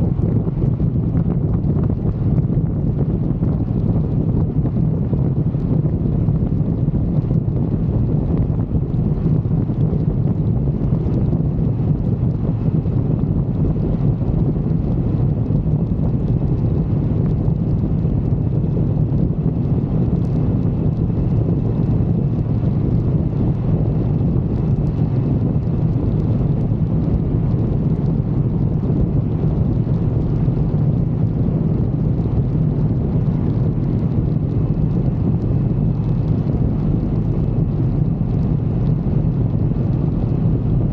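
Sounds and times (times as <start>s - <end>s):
motorcycle engine drone: 0.0s - 40.9s
wind rushing over microphone: 0.0s - 40.9s.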